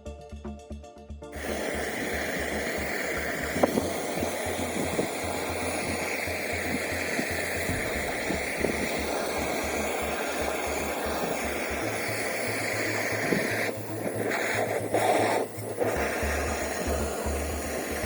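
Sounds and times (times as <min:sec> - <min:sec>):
background music: 0:00.0 - 0:18.0
steady hissing noise: 0:01.4 - 0:18.0.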